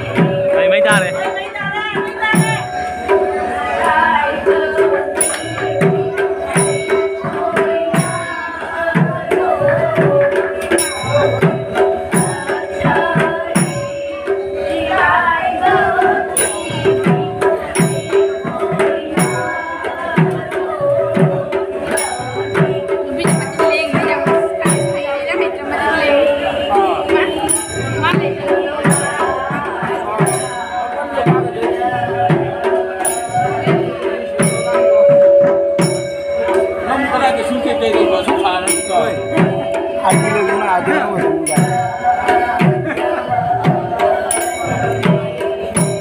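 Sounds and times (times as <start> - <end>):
ringing cymbal or bell strikes: 0.0 - 26.5, 27.1 - 46.0.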